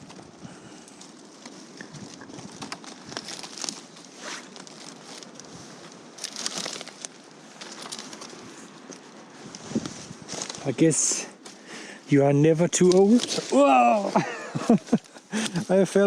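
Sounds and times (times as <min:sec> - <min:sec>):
dry leaves and twigs crackling: 0:00.0 - 0:16.0.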